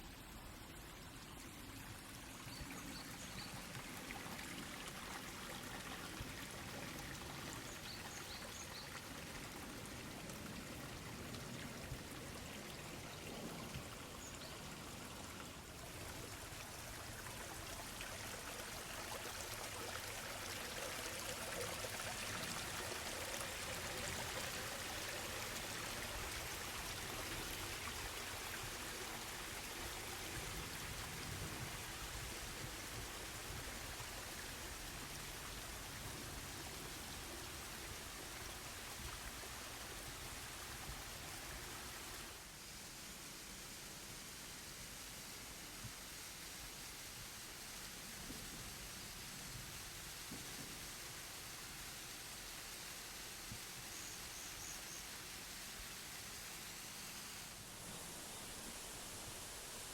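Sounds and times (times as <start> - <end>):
waterfall and stream flowing: 0.0 - 59.9.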